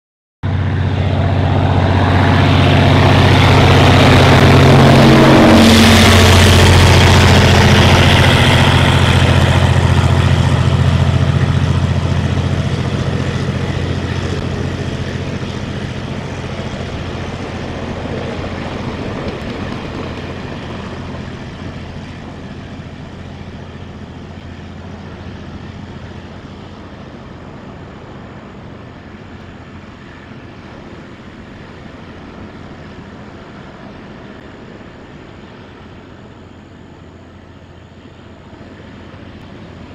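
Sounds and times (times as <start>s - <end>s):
freight train passing: 0.4s - 39.9s.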